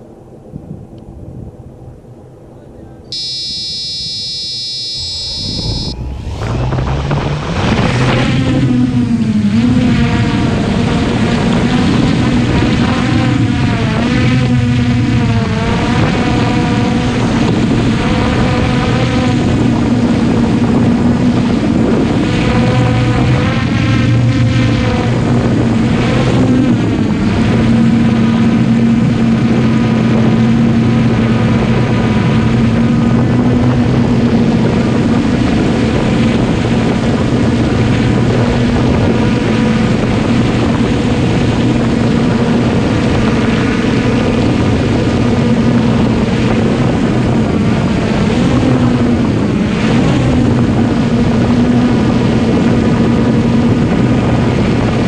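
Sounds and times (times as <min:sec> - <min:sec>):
drone propellers whirring: 0:03.1 - 0:55.0.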